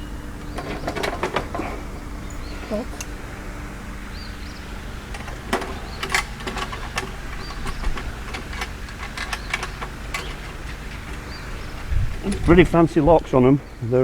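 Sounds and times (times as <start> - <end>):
hardware and wooden panels clicking: 0.0 - 13.8.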